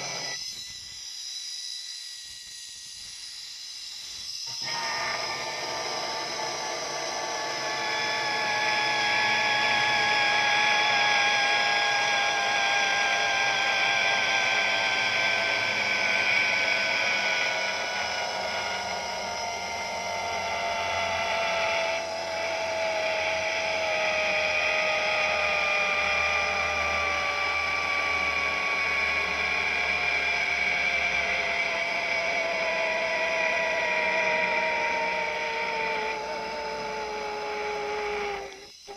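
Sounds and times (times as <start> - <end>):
zipline pulleys whining on cable: 0.0 - 38.9.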